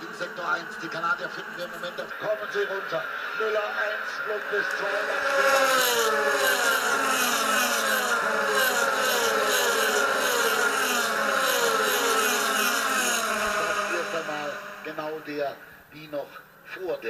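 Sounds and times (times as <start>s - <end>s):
race cars passing at full throttle: 0.0s - 15.7s.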